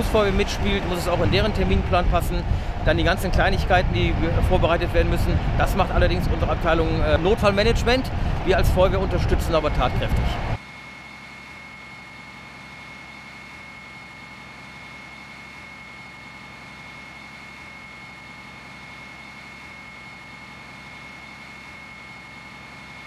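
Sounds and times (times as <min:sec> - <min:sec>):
high-pitched whine: 0:00.0 - 0:23.0
steady mechanical drone: 0:00.0 - 0:23.0.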